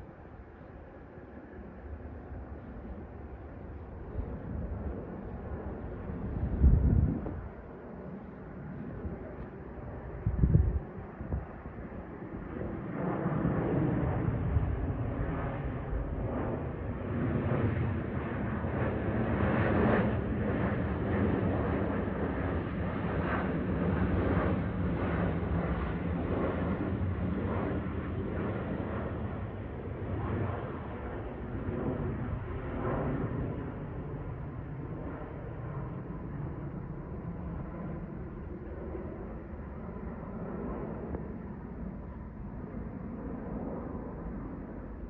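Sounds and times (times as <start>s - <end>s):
airliner engines rumbling overhead: 0.0s - 45.0s.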